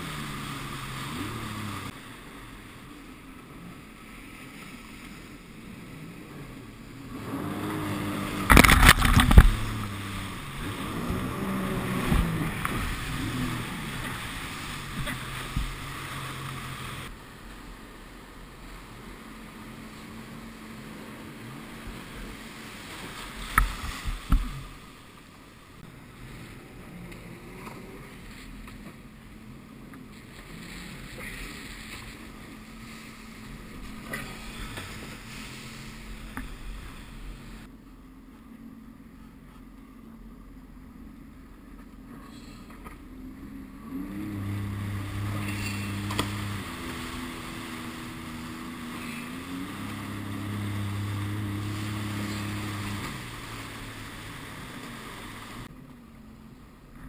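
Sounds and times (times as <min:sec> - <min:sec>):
water sloshing: 0:00.0 - 0:37.7, 0:43.0 - 0:55.7
jet ski engine running: 0:00.0 - 0:57.0.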